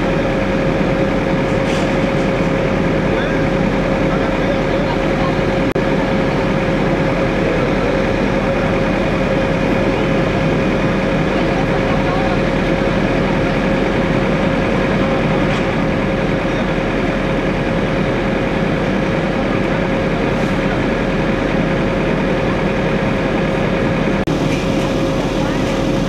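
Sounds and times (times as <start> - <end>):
diesel engines idling: 0.0 - 26.0.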